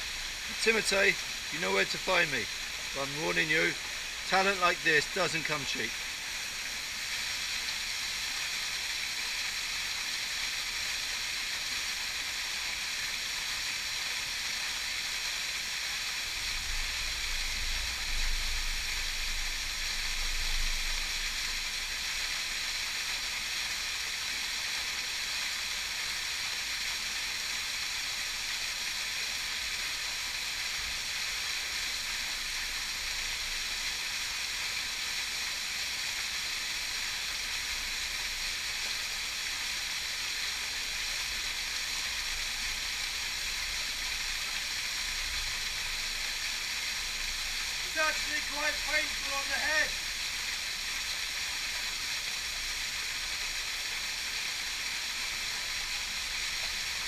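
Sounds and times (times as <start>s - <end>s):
waterfall pouring into pool: 0.0s - 57.0s.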